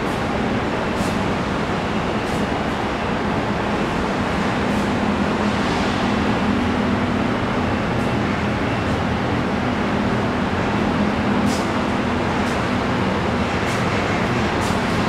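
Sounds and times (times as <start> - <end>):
broad rushing noise: 0.0 - 15.0
machinery hum: 0.0 - 15.0.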